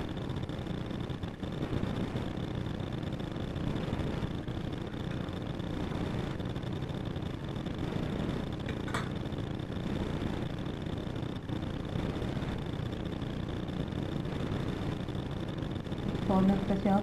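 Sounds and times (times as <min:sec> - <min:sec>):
mechanical hum with high whine: 0:00.0 - 0:17.0.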